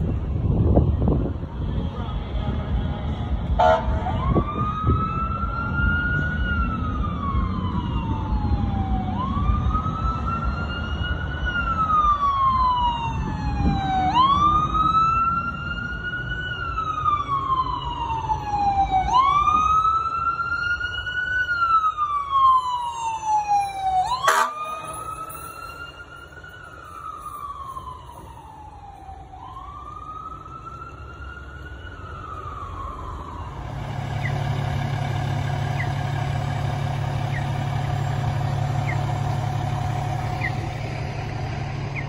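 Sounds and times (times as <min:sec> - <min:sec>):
city traffic rumble: 0:00.0 - 0:42.0
fire engine siren wailing: 0:00.0 - 0:42.0.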